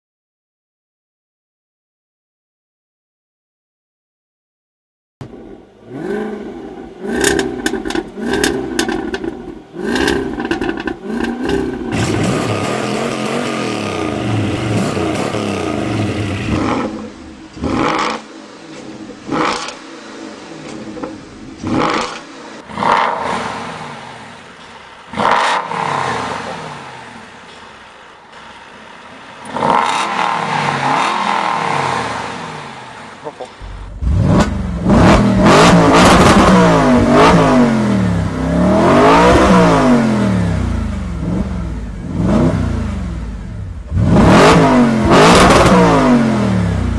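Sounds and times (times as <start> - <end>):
car engines revving: 5.2 - 46.9.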